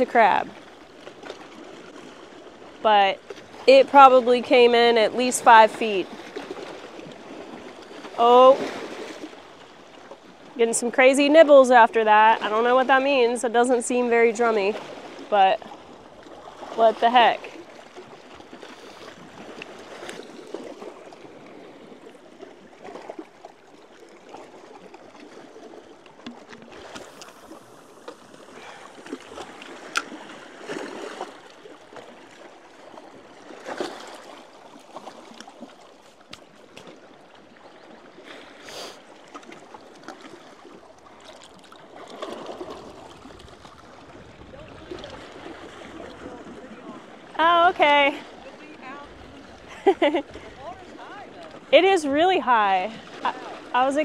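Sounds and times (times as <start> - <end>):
small waves lapping against rocks: 0.0 - 54.0.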